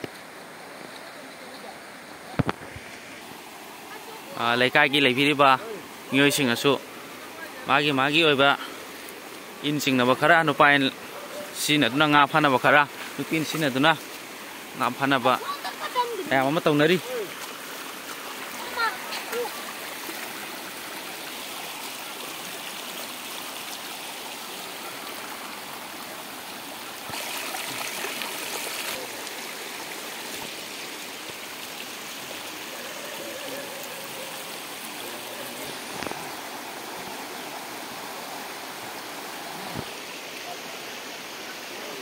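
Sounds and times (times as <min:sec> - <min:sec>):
floodwater gushing: 0:00.0 - 0:42.0.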